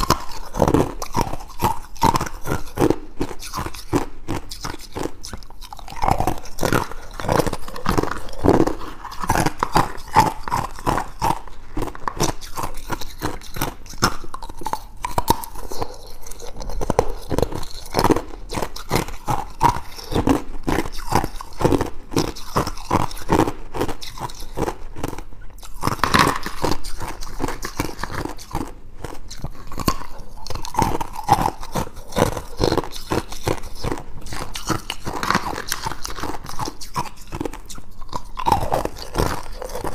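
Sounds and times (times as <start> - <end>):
person crunching ice cubes: 0.0 - 39.9.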